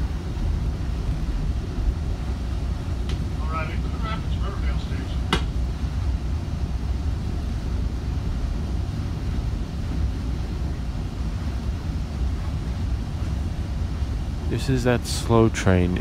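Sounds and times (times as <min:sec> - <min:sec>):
rail coach rumble: 0:00.0 - 0:16.0.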